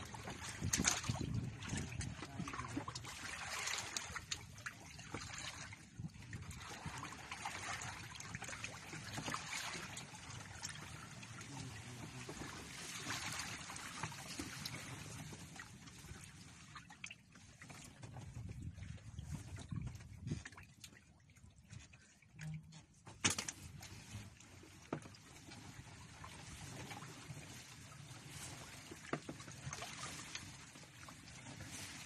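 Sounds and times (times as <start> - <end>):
shallow water lapping and trickling: 0.0 - 32.0.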